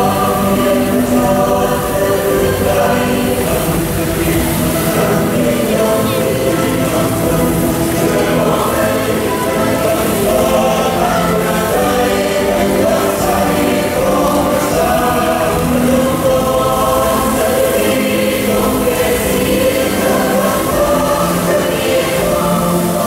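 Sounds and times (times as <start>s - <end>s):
choir singing sustained notes: 0.0s - 23.0s
water spray hissing: 0.0s - 23.0s.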